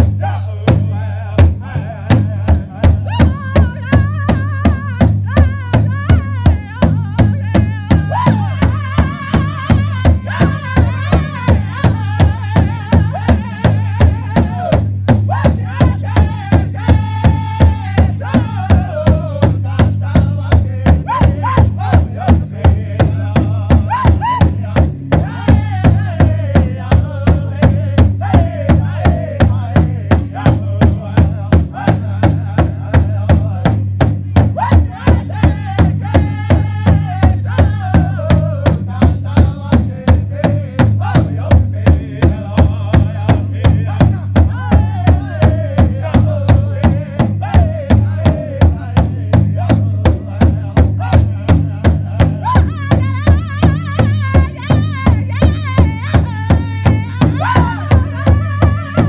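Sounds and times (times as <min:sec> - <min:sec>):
group of voices singing: 0:00.0 - 0:59.0
large drum steady beat: 0:00.0 - 0:59.0.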